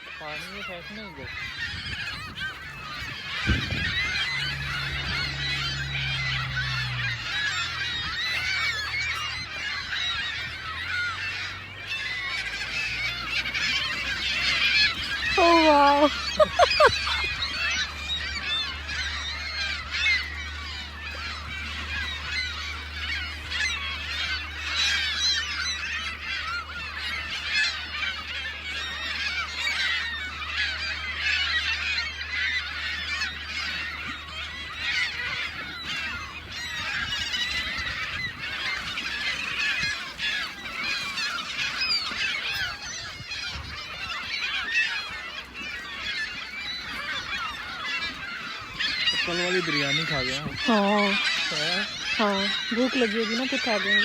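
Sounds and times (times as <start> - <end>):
gulls squawking: 0.0 - 54.0.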